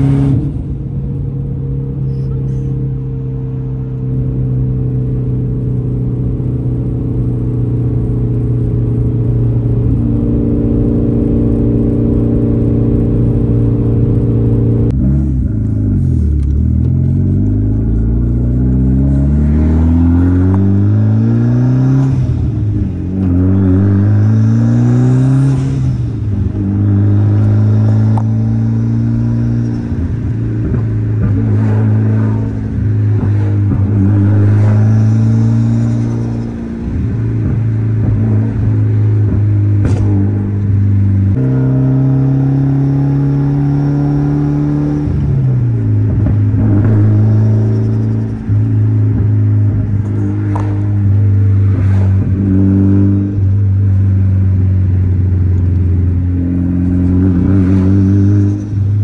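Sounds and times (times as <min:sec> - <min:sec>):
car engine droning and revving: 0:00.0 - 0:59.0.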